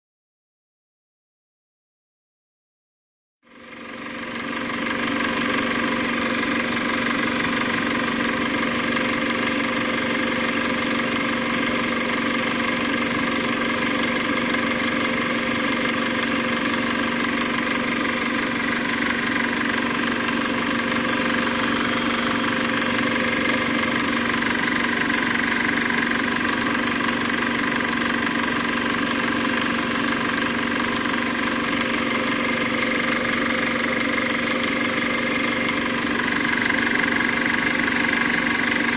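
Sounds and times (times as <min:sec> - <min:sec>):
film projector running: 0:03.5 - 0:38.9.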